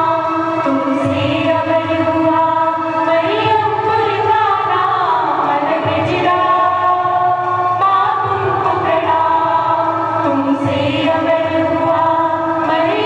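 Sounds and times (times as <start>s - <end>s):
choir singing slowly: 0.0s - 13.0s.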